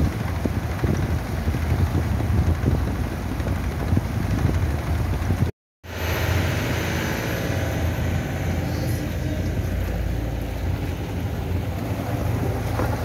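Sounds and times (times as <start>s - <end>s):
boat engine running: 0.0s - 13.0s
water rushing past hull: 0.0s - 13.0s.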